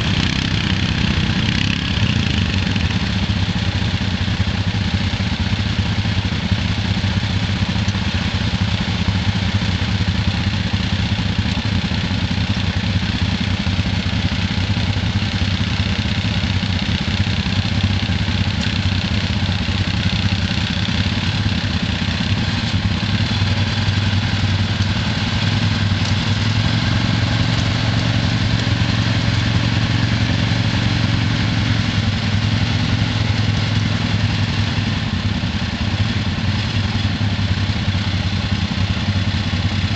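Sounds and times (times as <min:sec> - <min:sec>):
atv engines idling: 0:00.0 - 0:39.9.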